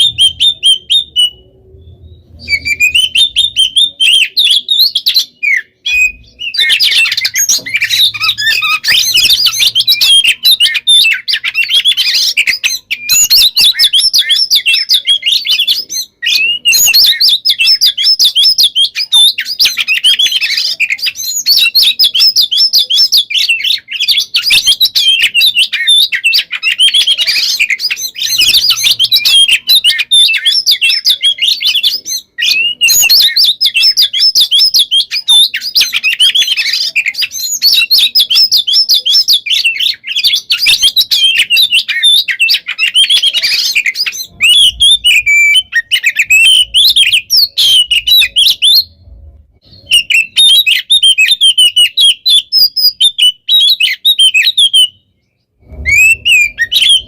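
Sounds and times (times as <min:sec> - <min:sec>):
songbird whistles and trills: 0:00.0 - 0:57.0.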